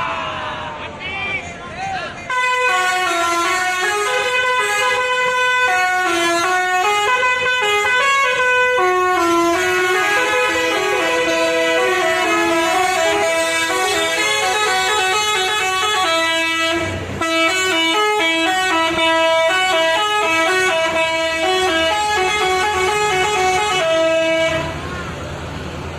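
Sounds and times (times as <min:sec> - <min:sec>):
musical air horn playing tune: 0:02.3 - 0:24.8.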